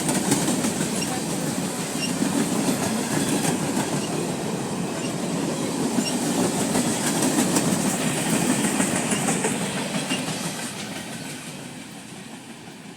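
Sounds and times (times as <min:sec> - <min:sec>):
freight train rumbling: 0:00.0 - 0:12.9
wheels clicking over rail joints: 0:00.0 - 0:12.9.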